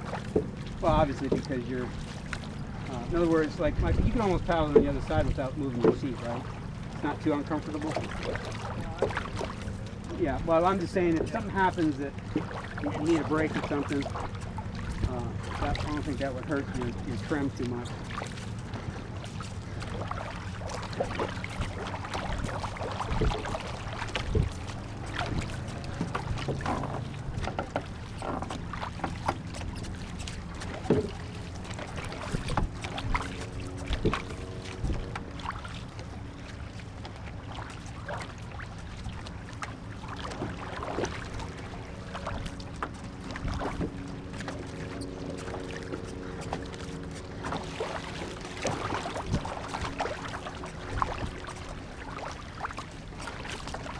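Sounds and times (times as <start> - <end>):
paddles knocking against hull: 0.0 - 53.9
paddles splashing in water: 0.0 - 53.9.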